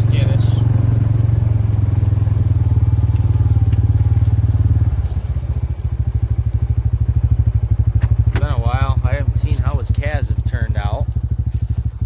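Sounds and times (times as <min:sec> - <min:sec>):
farm vehicle engine throbbing: 0:00.0 - 0:12.0.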